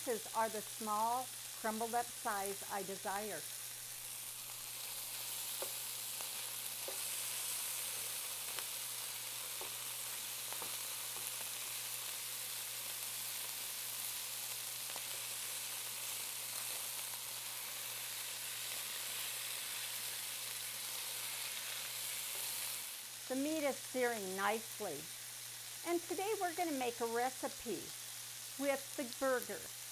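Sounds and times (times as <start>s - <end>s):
meat sizzling in a skillet: 0.0s - 29.9s.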